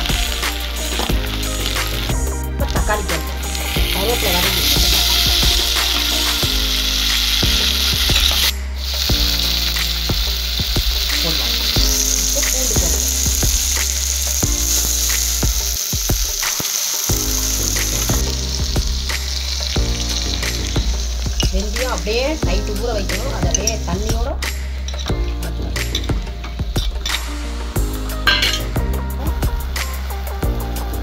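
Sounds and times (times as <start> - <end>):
vegetables sizzling in hot oil: 0.0 - 31.0.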